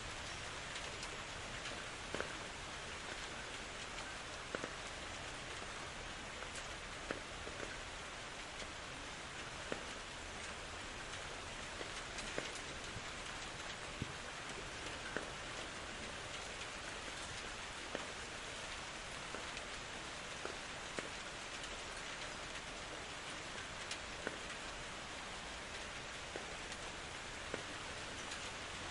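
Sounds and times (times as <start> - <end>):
raindrops ticking on surfaces: 0.0 - 28.9
steady rain hiss: 0.0 - 28.9.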